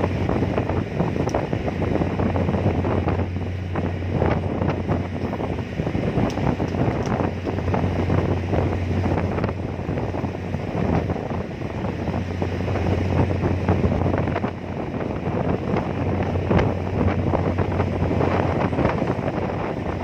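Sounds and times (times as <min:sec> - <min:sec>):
ferry engine drone: 0:00.0 - 0:20.0
wind buffeting microphone: 0:00.0 - 0:20.0.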